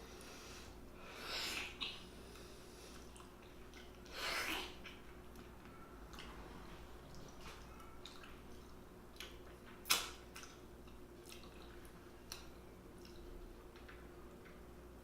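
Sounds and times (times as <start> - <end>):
person chewing wetly: 1.6 - 6.4, 7.0 - 14.6.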